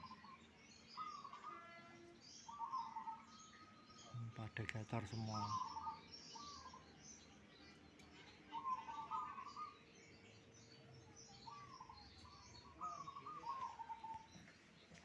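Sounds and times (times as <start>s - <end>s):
birds twittering: 0.0s - 15.0s
songbird singing: 0.0s - 15.0s.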